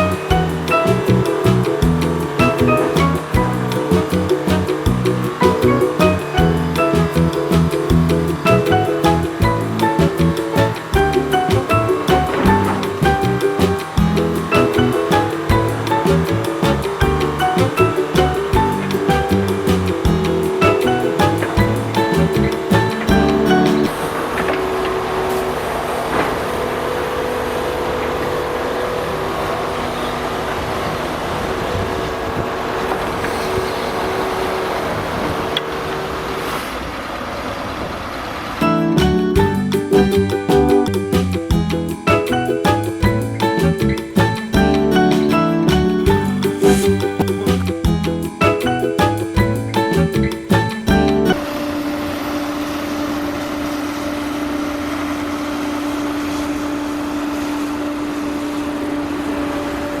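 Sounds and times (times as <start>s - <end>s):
machine rumbling: 0.0s - 57.8s.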